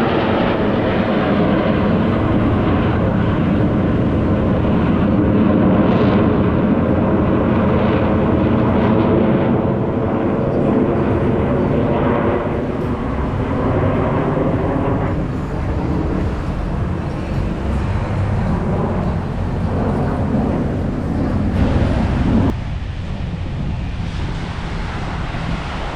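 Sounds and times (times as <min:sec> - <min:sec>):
jet noise rumble: 0:00.0 - 0:25.9.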